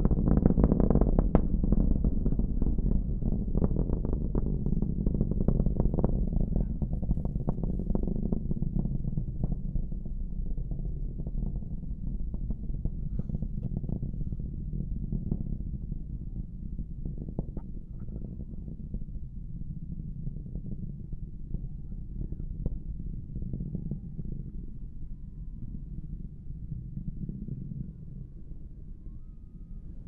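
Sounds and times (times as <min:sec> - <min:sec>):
distant rocket engines rumbling: 0:00.0 - 0:30.0.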